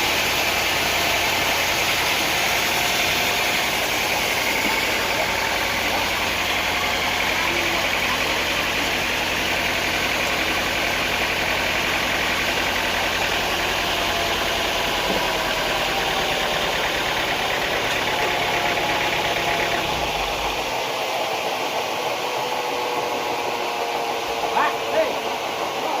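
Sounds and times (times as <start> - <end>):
sawmill engine rumbling: 0.0 - 26.0.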